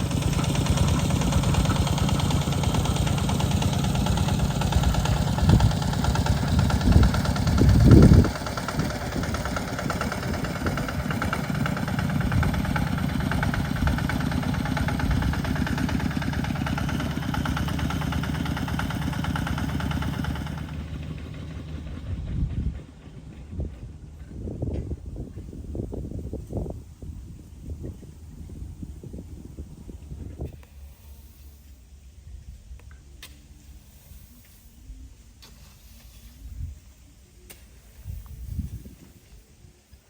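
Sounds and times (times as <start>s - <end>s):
engine running: 0.0s - 36.3s.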